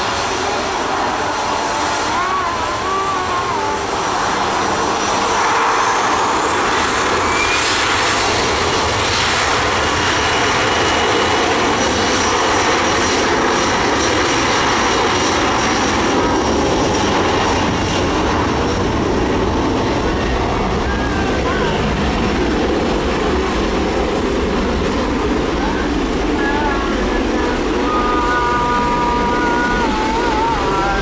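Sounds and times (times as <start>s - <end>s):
high engine whine: 0.0s - 31.0s
jet engines running: 0.0s - 31.0s.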